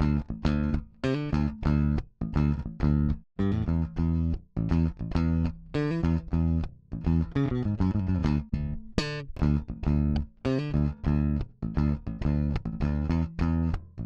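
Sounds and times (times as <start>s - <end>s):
plucked electric bass guitar: 0.0s - 14.0s.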